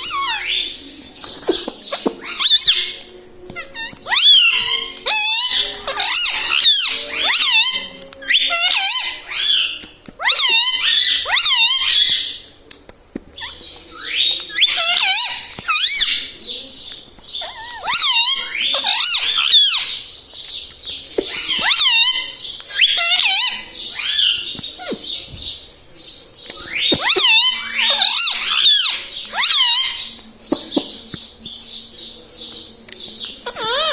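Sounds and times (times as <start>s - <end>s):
parakeet chattering: 0.0s - 12.4s, 13.4s - 16.2s, 17.3s - 20.0s, 21.2s - 25.5s, 26.6s - 33.9s.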